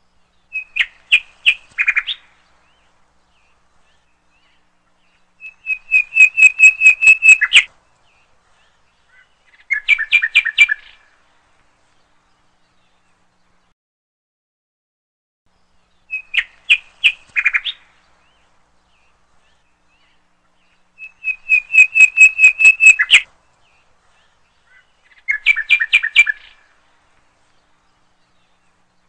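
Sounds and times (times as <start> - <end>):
songbird chirping: 0.0 - 13.7, 15.5 - 29.0.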